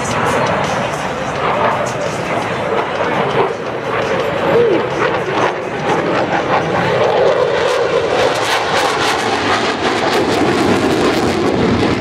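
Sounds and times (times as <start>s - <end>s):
jet fighter low pass: 0.0s - 12.0s.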